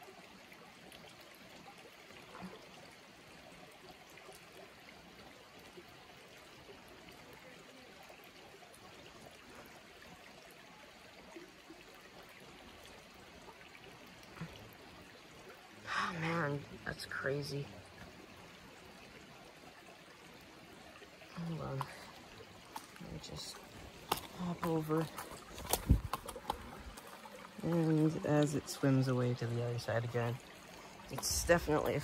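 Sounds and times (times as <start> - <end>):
water trickling over rock: 0.0 - 32.0.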